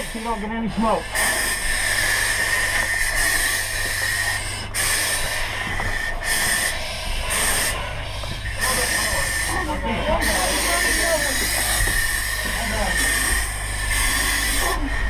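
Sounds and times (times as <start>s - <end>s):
low steady rumble: 0.0s - 15.0s
pressurised air hissing: 0.0s - 15.0s.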